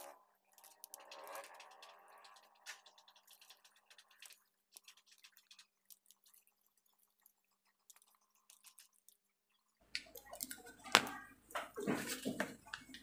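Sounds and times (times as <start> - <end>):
grip tape crackling: 0.0 - 13.0.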